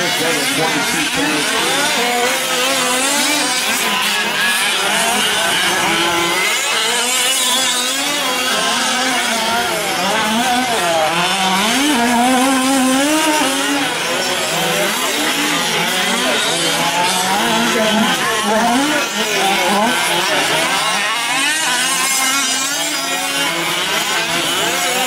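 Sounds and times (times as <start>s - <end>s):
small two-stroke engines racing: 0.0s - 25.0s.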